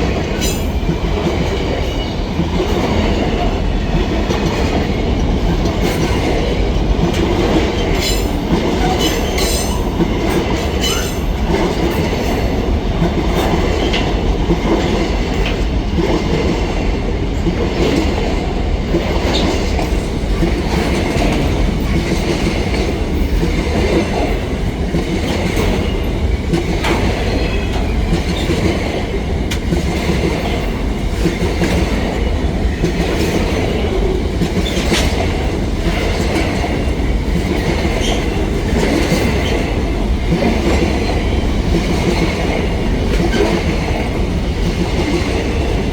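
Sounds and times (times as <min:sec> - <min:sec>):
freight train wagons rolling: 0:00.0 - 0:16.6, 0:17.4 - 0:45.9.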